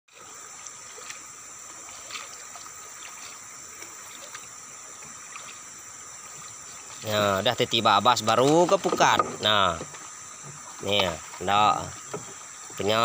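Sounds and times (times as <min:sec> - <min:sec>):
water splashing against canoe: 0:00.1 - 0:07.4, 0:08.1 - 0:13.0
insect drone: 0:00.1 - 0:13.0.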